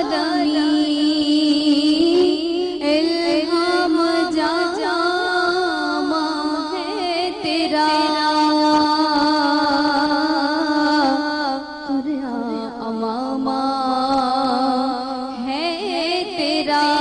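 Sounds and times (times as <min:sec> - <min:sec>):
woman singing into microphone: 0:00.0 - 0:17.0.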